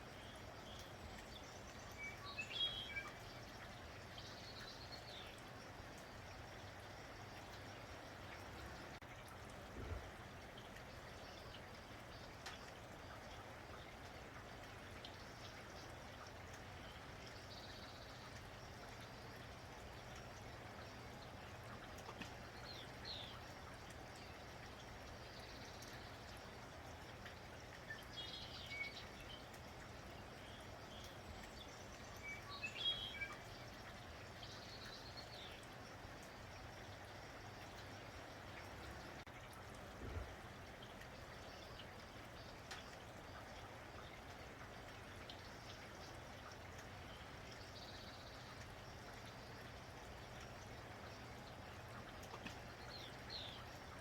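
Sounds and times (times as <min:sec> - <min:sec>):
light rain: 0:00.0 - 0:54.0.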